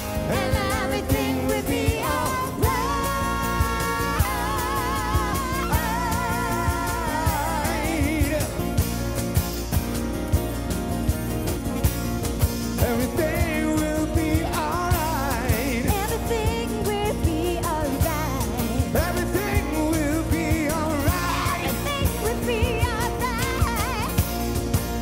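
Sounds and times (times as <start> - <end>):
person singing with vibrato: 0.0 - 9.0, 12.7 - 24.3
percussion steady beat: 0.0 - 25.0
strummed acoustic guitars: 0.0 - 25.0.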